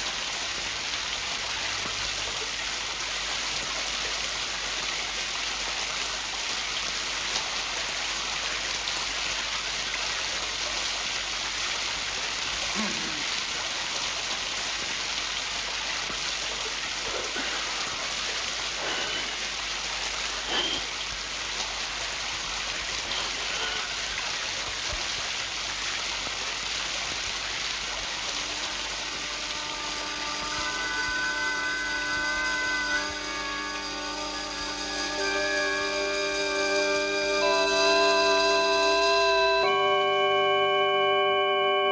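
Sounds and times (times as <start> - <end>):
music with held wind notes: 0.0 - 41.9
waterfall rushing into pool: 0.0 - 41.9.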